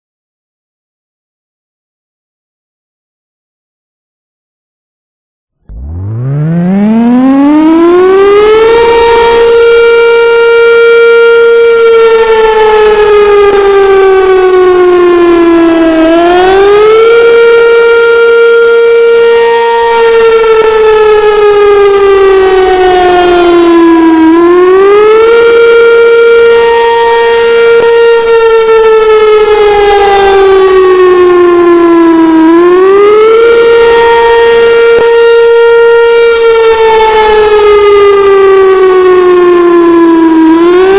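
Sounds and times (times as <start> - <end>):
outdoor warning siren wailing: 5.6 - 40.9.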